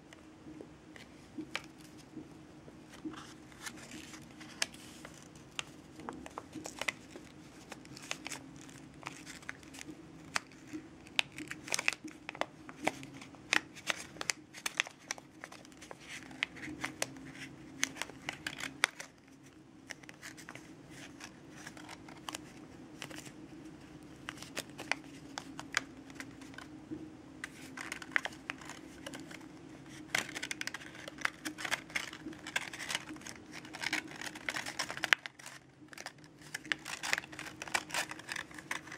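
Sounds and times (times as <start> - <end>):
steady low hum: 0.0 - 38.9
paper crinkling and crackling: 0.9 - 2.3, 2.9 - 38.9.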